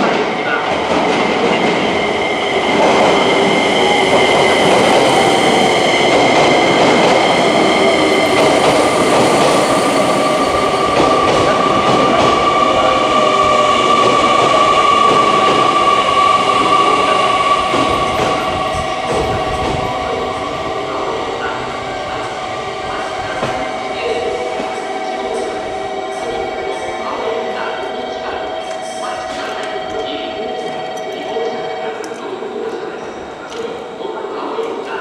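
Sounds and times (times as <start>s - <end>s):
electric train rolling: 0.0s - 33.7s.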